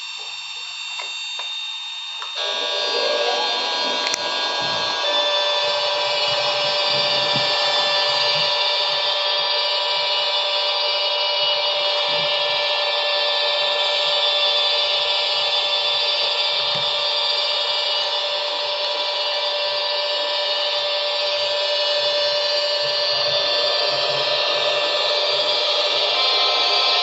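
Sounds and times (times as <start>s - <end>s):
electric whine from small loudspeaker: 0.0s - 27.0s.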